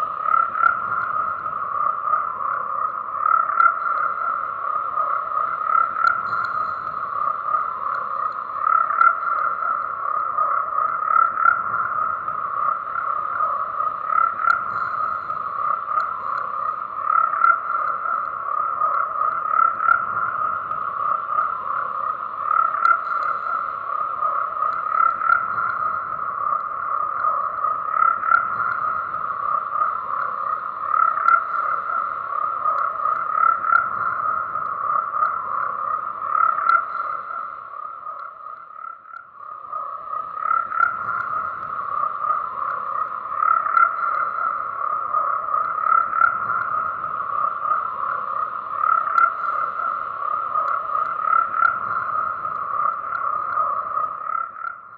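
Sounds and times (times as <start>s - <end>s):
frogs calling: 0.0s - 54.9s.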